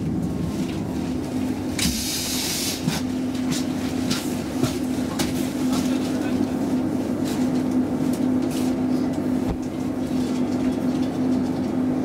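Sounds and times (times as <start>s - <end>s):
electric train interior hum: 0.0s - 12.0s.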